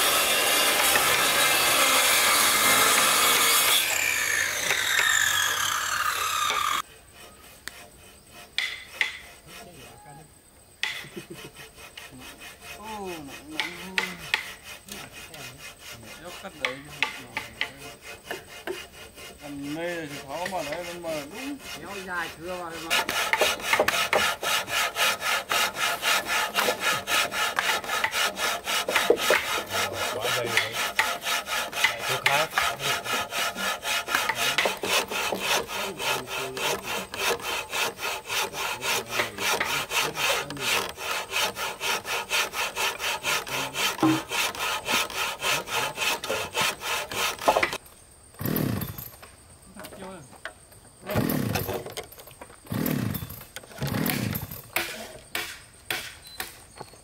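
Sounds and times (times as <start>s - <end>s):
hand saw cutting wood: 0.0s - 10.1s, 10.8s - 47.8s, 48.4s - 49.1s, 51.0s - 52.0s, 52.7s - 56.6s.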